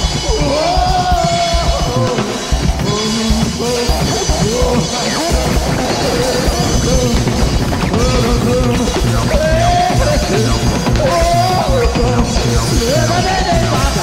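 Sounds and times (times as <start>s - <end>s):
drum kit: 0.0s - 14.0s
sliding pitched tones: 0.0s - 14.0s.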